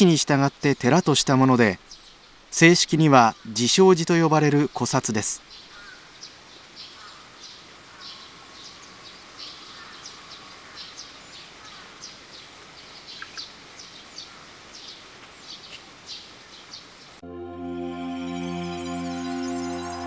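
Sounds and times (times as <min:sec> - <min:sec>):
small birds chirping: 0:00.0 - 0:17.2
faint steady hiss: 0:00.0 - 0:20.0.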